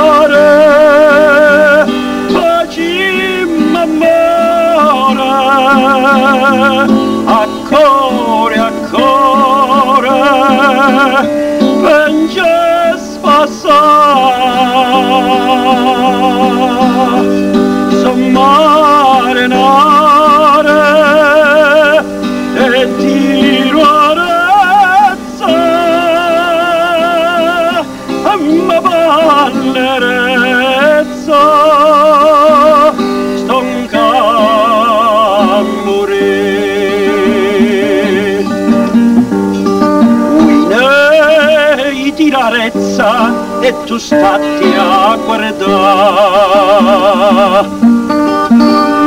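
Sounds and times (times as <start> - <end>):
acoustic guitar: 0.0 - 49.0
man singing with vibrato: 0.0 - 49.0.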